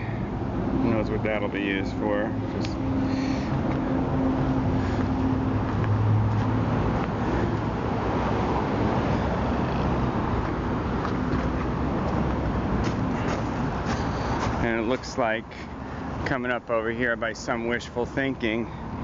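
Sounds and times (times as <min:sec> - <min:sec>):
low engine hum: 0:00.0 - 0:19.0
road traffic passing: 0:00.0 - 0:19.0.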